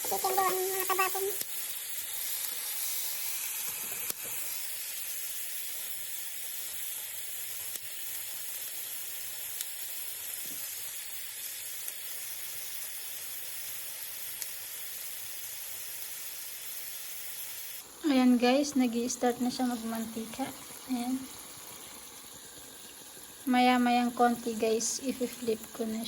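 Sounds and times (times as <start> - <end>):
chicken sizzling in a pan: 0.0 - 26.0.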